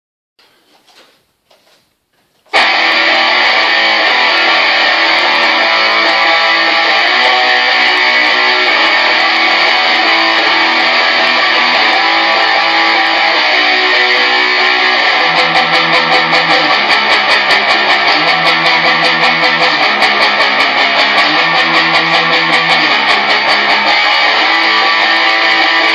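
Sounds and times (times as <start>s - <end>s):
electric guitar strumming: 2.5s - 25.9s.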